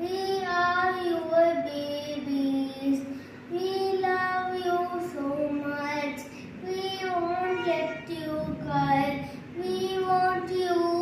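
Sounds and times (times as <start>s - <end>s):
child singing slow melody: 0.0s - 11.0s.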